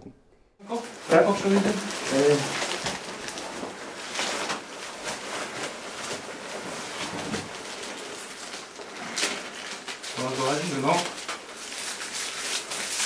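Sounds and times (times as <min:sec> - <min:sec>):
bags and plastic rustling: 0:00.6 - 0:13.0.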